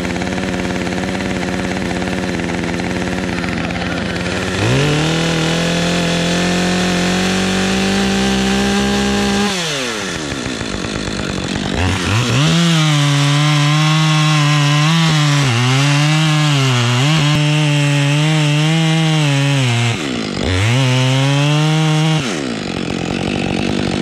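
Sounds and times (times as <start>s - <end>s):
chainsaw cutting wood: 0.0s - 24.0s
chainsaw idling: 0.0s - 24.0s.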